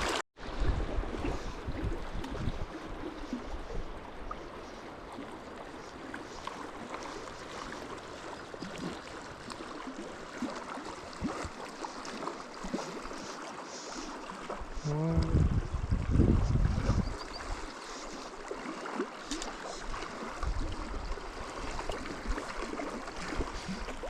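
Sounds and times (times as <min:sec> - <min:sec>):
river water babbling: 0:00.0 - 0:24.0
small water splashes: 0:00.0 - 0:24.0.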